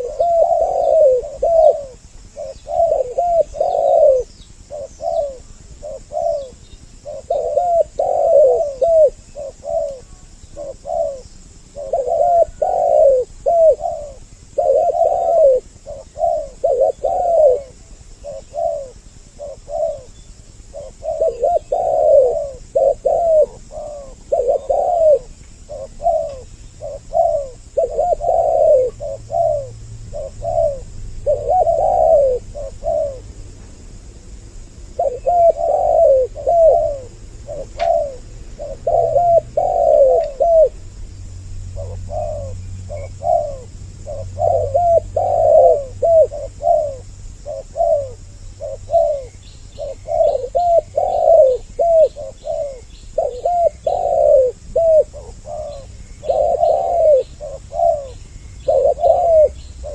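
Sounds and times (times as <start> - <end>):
doves cooing: 0.0 - 33.5, 34.7 - 59.9.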